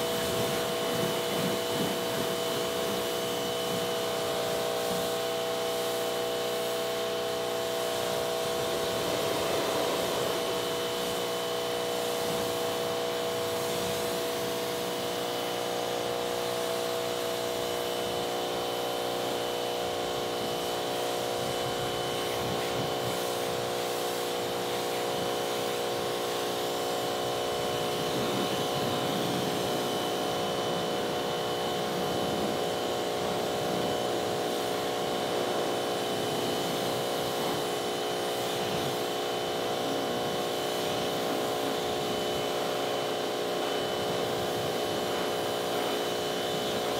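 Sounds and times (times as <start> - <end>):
pressure washer motor: 0.0 - 46.9
water jet hissing: 0.0 - 46.9.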